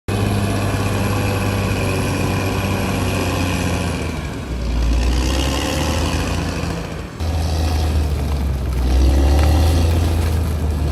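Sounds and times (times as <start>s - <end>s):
bulldozer diesel engine running: 0.1s - 10.9s.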